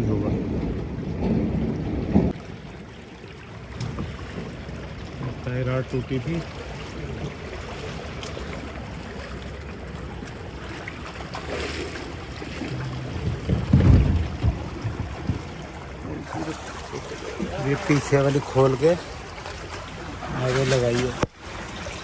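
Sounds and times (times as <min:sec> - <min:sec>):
river water flowing: 0:02.3 - 0:22.0.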